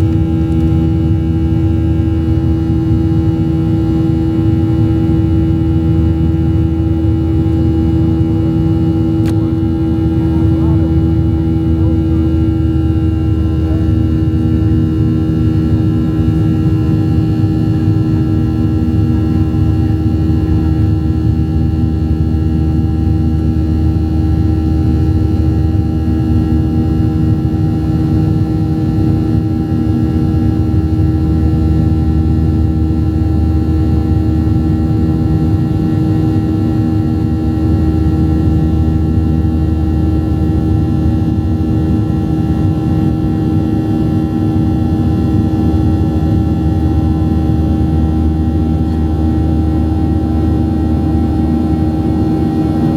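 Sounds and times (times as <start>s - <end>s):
airplane cabin engine rumble: 0.0s - 52.9s
steady humming tone: 0.0s - 52.9s.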